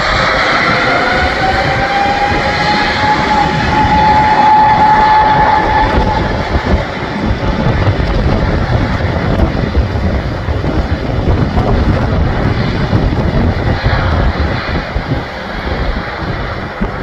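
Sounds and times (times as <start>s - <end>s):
high engine whine: 0.0s - 17.0s
jet engines rumbling at takeoff: 0.0s - 17.0s.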